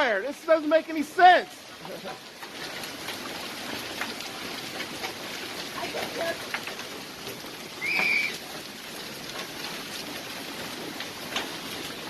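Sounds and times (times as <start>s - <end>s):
hailstones ticking: 0.0s - 12.0s
rain hissing: 0.0s - 12.0s.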